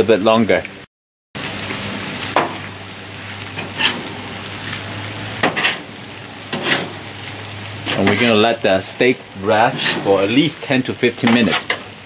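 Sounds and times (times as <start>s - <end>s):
meat sizzling on a grill: 1.4s - 12.0s.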